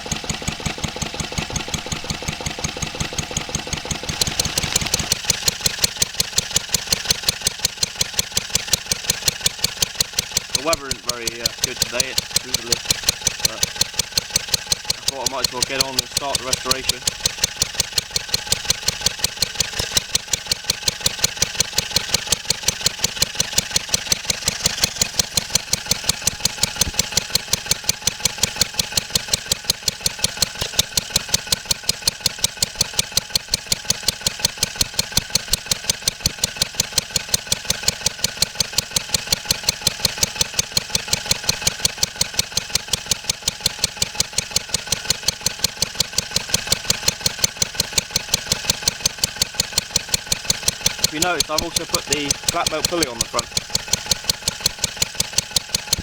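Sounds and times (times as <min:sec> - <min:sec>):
stationary engine running steadily: 0:00.0 - 0:56.0.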